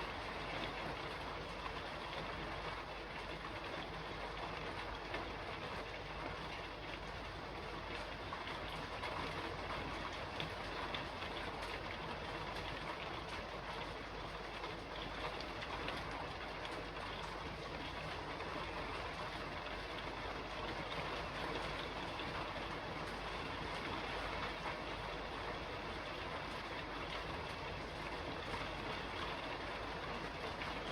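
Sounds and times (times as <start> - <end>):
rain falling on a roof: 0.0 - 30.9.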